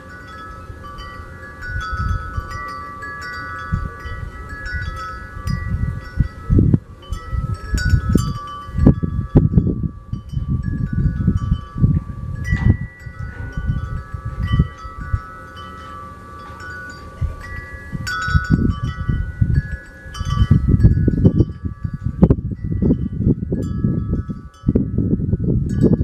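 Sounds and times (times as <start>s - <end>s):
low rumbling: 0.0s - 26.0s
wind chimes ringing: 0.0s - 26.0s.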